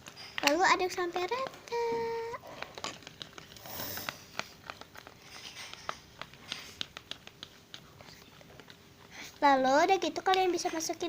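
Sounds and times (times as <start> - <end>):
slime being stirred: 0.0 - 11.0
sticky crackles and clicks: 0.0 - 11.0.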